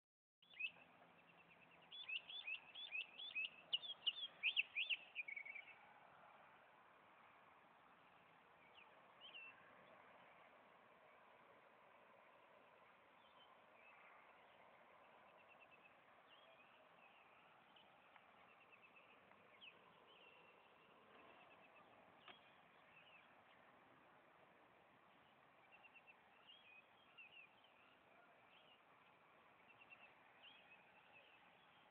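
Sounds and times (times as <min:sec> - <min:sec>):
songbird singing: 0:00.4 - 0:31.9.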